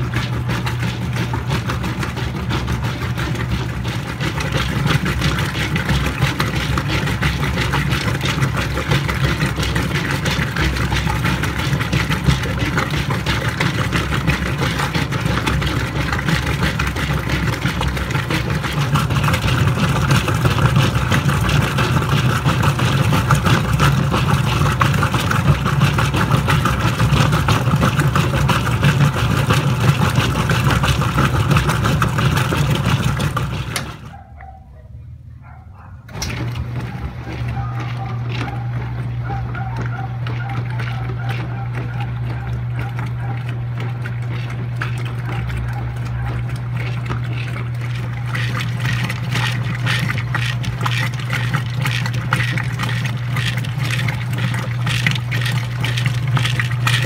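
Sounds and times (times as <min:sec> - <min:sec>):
water and clothes churning: 0:00.0 - 0:34.7, 0:35.4 - 0:57.0
washing machine motor hum: 0:00.0 - 0:57.0.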